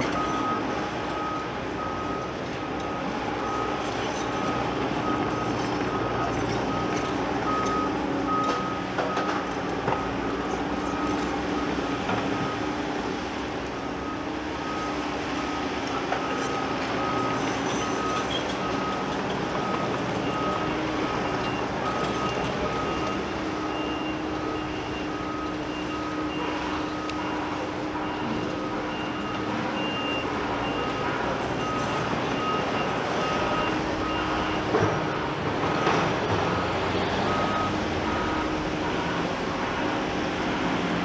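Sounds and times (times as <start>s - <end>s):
reversing alarm beeping: 0.0s - 12.8s, 13.8s - 40.1s
diesel engines running: 0.0s - 41.0s.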